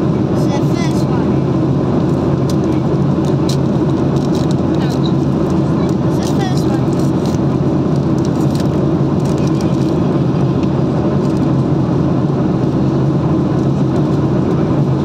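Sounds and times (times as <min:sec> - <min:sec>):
car engine and road drone: 0:00.0 - 0:15.0.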